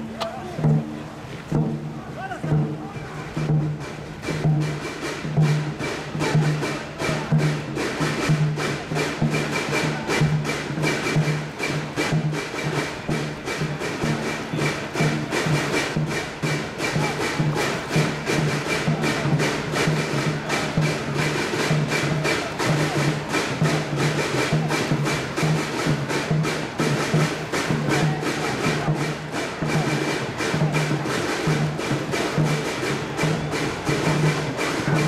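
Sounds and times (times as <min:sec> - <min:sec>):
drums beaten in fast rhythm: 0:00.0 - 0:35.0.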